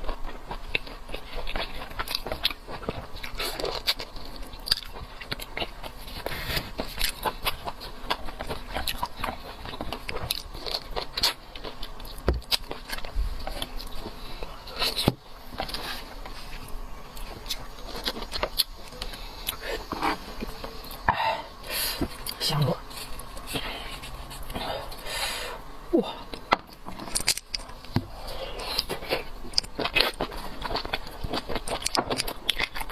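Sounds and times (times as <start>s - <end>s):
chewing seafood: 0.0s - 32.9s.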